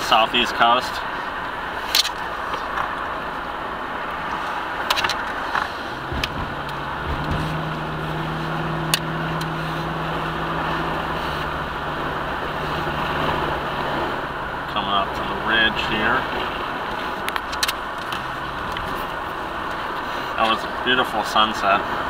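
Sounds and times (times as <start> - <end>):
low engine hum: 0.0 - 22.0
road and engine noise: 0.0 - 22.0.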